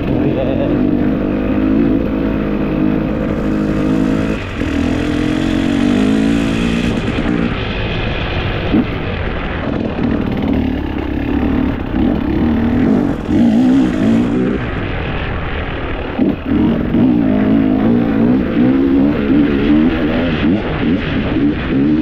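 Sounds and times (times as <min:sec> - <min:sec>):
road and wind rumble: 0:00.0 - 0:22.0
vehicle engine running: 0:00.0 - 0:22.0.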